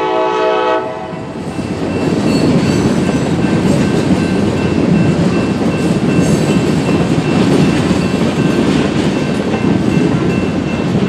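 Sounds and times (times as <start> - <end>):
train wheels rumbling on rail: 0.0 - 11.0
clickety-clack of rail joints: 1.3 - 11.0.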